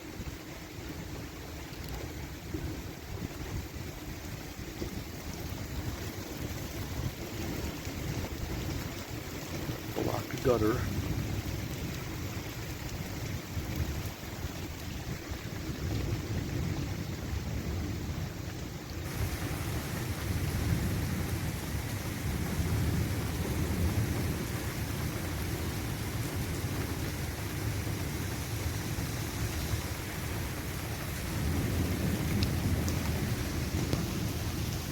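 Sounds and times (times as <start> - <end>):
hiss of rain or wind: 0.0 - 34.9.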